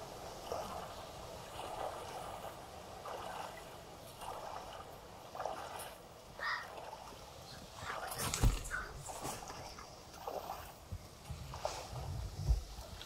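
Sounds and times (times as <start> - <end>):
river water lapping: 0.0 - 13.0.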